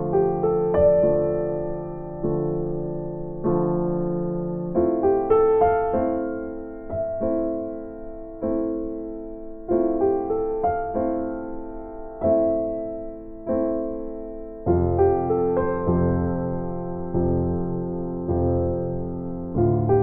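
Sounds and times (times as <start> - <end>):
slow electric piano piece: 0.0 - 20.0.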